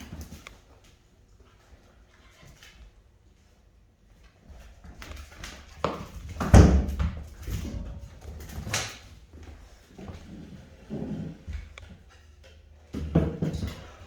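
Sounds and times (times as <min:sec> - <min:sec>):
puppies scuffling and playing: 0:00.0 - 0:14.0.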